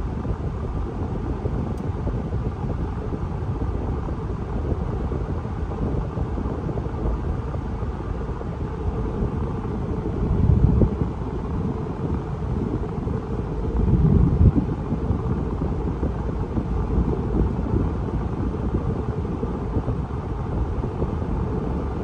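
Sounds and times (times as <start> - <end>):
road and tyre rumble: 0.0 - 22.0
wind: 0.0 - 22.0.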